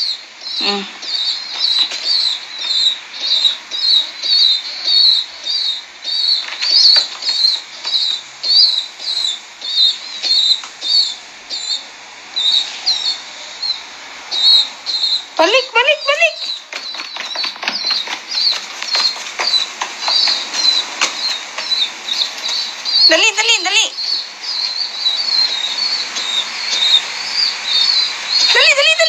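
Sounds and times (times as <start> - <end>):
duckling peeping: 0.0 - 29.0.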